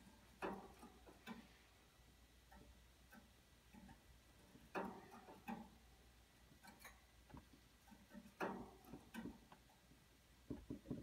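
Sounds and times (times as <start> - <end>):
faint clicks and ticks: 0.0 - 11.0.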